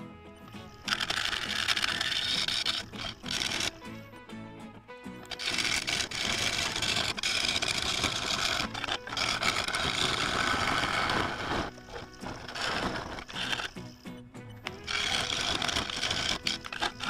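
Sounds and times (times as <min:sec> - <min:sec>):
background music: 0:00.0 - 0:17.0
wood lathe turning hiss: 0:00.5 - 0:04.0, 0:05.2 - 0:17.0.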